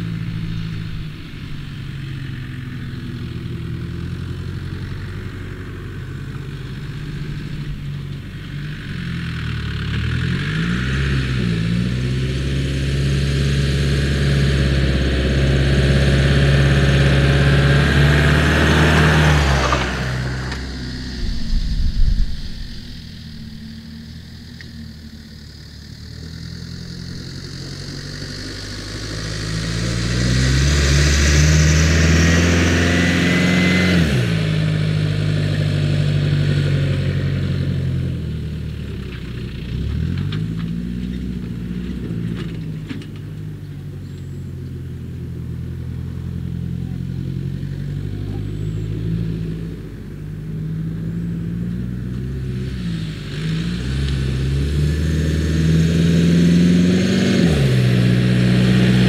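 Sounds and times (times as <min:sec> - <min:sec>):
military vehicle driving past: 0:00.0 - 0:59.0.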